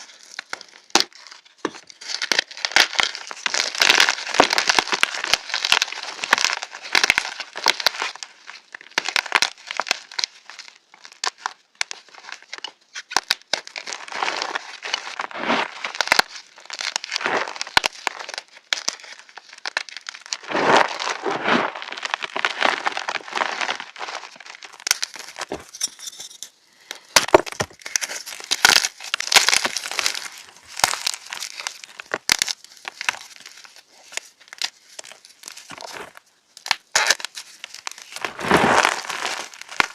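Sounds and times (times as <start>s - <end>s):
chalk crushing crackles: 0.0s - 39.9s.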